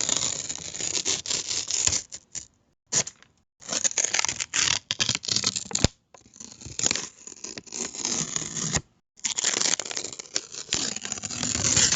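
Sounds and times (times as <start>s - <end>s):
paper tearing: 0.0s - 11.9s.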